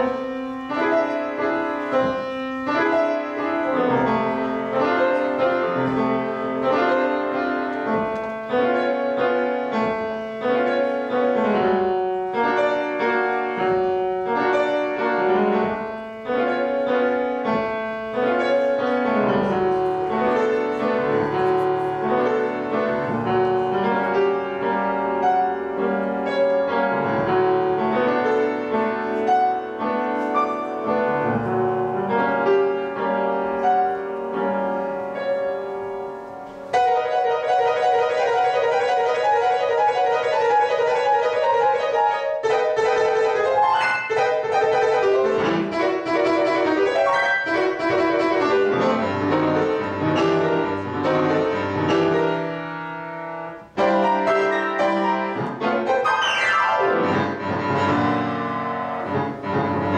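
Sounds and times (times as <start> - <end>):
grand piano playing: 0.0 - 59.9.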